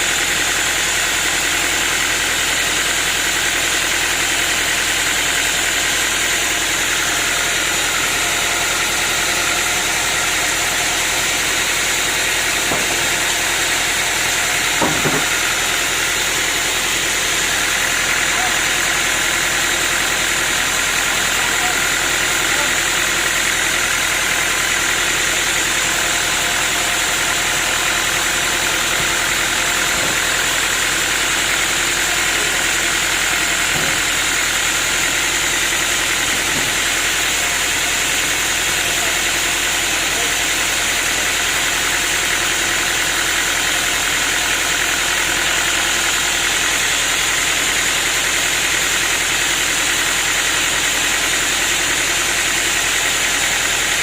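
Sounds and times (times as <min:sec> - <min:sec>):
sawmill machinery humming and whining: 0:00.0 - 0:54.0.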